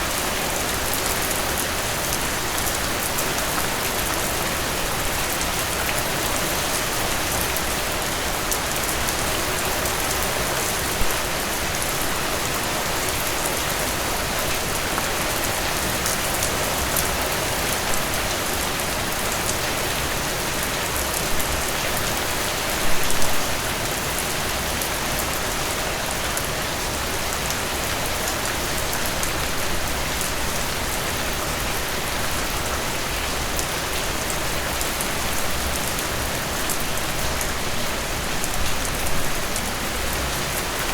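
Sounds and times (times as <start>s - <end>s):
heavy rain on hard surface: 0.0s - 40.9s.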